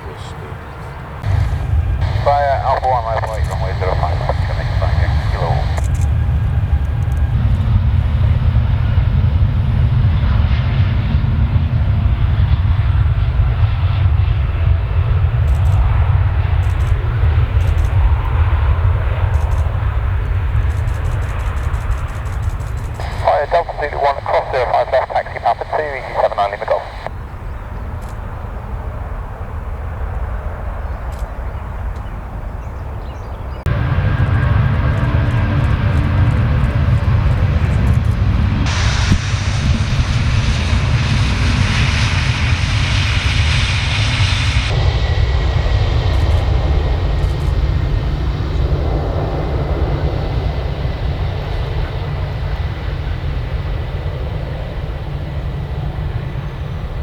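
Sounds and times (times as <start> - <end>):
faint jet engine noise: 0.0 - 57.0
wind buffeting microphone: 0.6 - 57.0.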